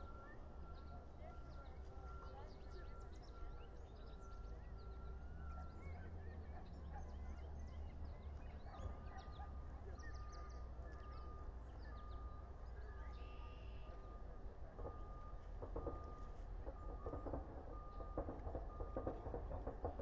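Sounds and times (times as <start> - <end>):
faint repeated whistle-like tone: 0.0 - 20.0.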